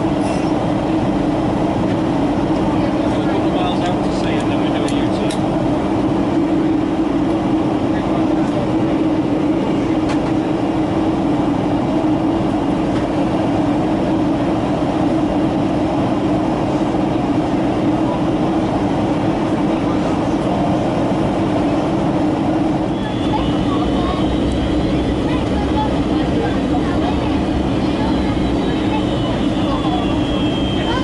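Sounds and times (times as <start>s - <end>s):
airplane cabin rumble: 0.0s - 31.0s
constant low hum: 0.0s - 31.0s.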